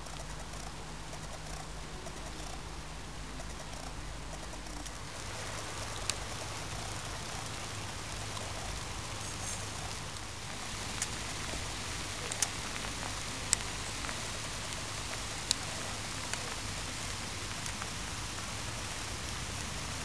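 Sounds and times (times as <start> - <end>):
rain falling: 0.0 - 20.0
raindrop ticks: 0.0 - 20.0.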